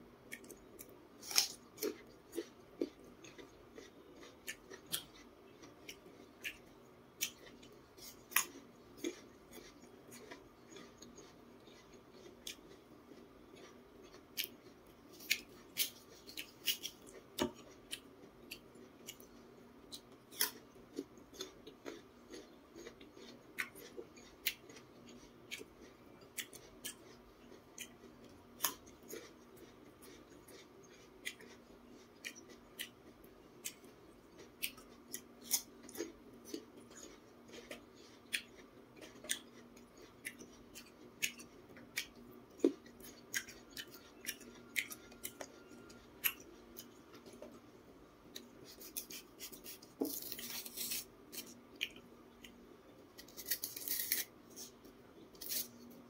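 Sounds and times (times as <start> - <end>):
faint steady hum: 0.0 - 56.0
crisp chewing crunches: 0.3 - 19.4, 20.0 - 47.5, 48.4 - 56.0.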